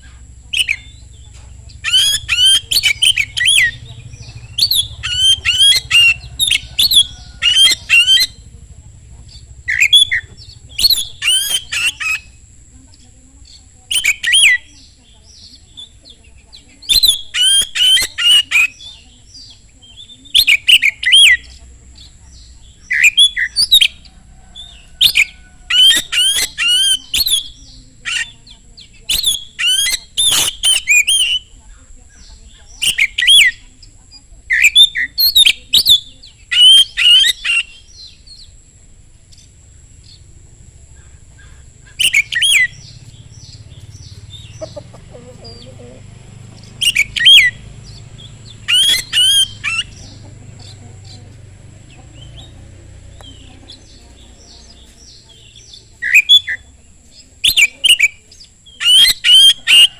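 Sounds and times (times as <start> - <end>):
songbird whistling and chattering: 0.0 - 38.7, 39.3 - 59.9.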